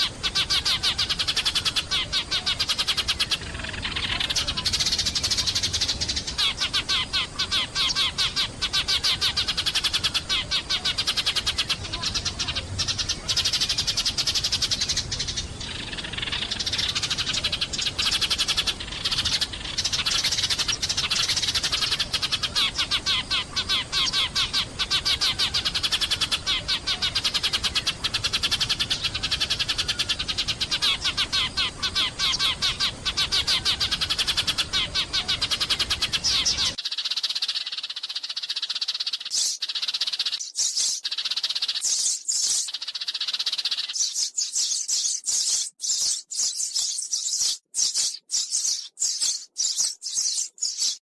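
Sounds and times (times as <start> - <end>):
sparrows chirping: 0.0 - 51.0.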